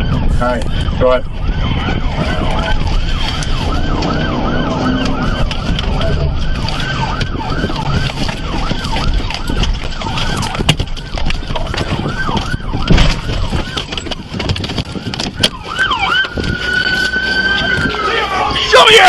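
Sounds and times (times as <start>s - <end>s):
engine and road noise: 0.0s - 19.0s
police siren yelping: 0.0s - 19.0s.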